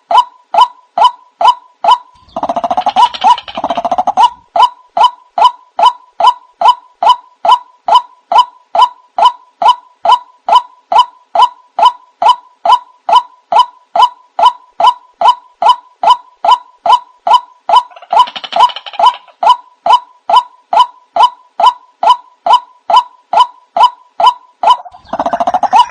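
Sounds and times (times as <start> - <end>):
noisy chorus of bird calls: 0.0 - 25.9.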